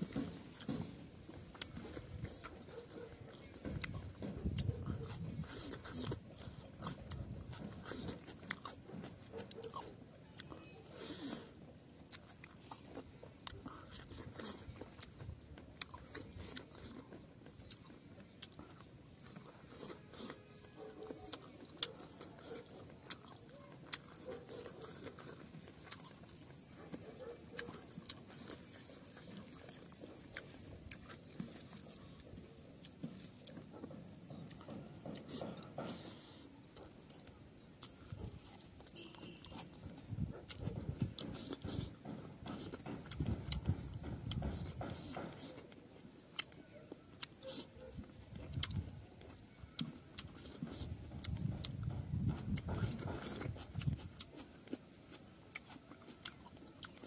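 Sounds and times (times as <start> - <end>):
man chewing food: 0.0 - 57.0.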